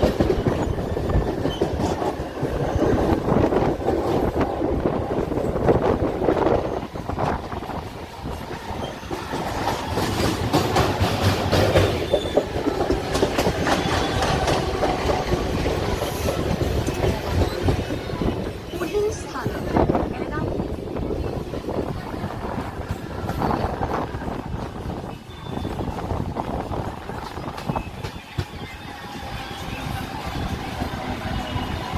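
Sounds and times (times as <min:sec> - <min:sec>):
train rumbling: 0:00.0 - 0:31.9.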